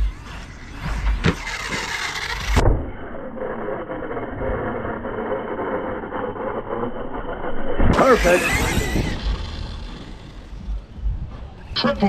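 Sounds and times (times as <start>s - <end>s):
electric motor whining: 0.0s - 11.1s.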